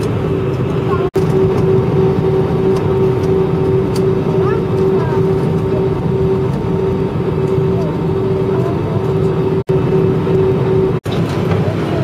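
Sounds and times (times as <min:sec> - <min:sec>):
jet cabin rumble and hum: 0:00.0 - 0:12.0.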